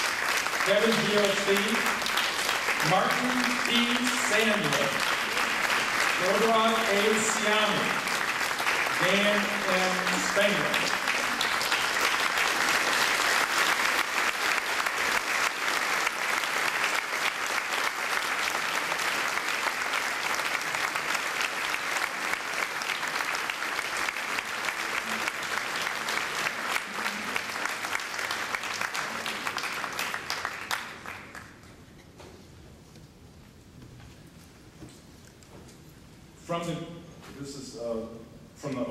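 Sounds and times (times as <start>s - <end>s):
audience clapping in large hall: 0.0s - 32.0s.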